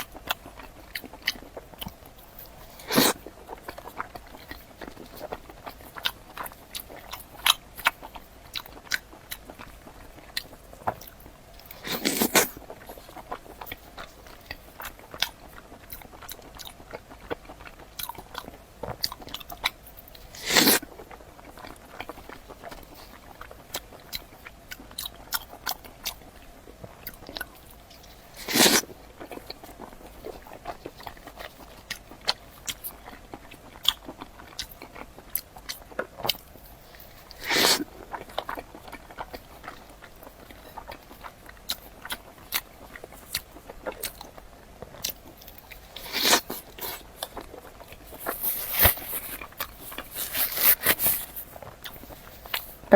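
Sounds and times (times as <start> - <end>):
chewing and crunching: 0.0 - 52.9.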